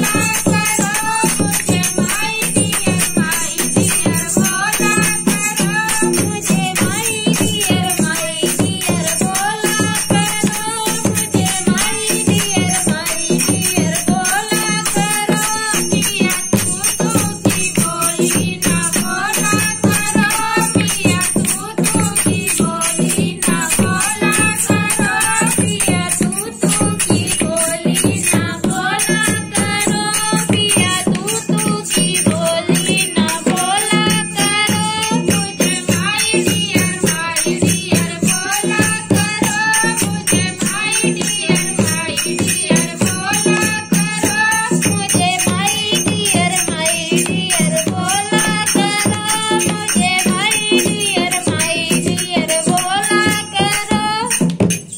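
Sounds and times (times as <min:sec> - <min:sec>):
hand drum: 0:00.0 - 0:54.9
jingling hand percussion: 0:00.0 - 0:54.9
women singing in unison: 0:00.0 - 0:54.9.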